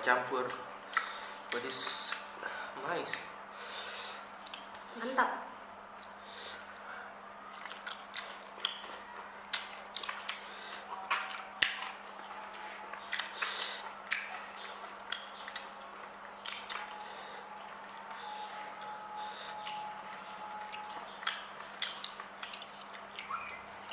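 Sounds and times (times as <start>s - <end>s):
faint steady hum: 0.0s - 23.9s
person chewing and mouth smacks: 0.4s - 2.4s, 3.0s - 3.4s, 4.3s - 4.9s, 7.5s - 23.9s.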